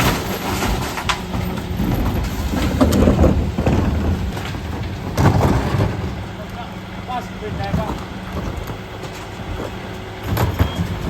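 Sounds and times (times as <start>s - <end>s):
truck engine and hydraulics: 0.0s - 11.0s.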